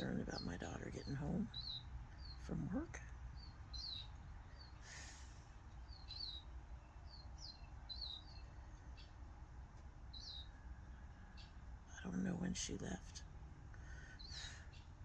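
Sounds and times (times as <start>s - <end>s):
faint bird chirps: 0.0s - 9.2s, 10.1s - 13.0s, 13.8s - 15.0s
low steady hum: 0.0s - 15.0s.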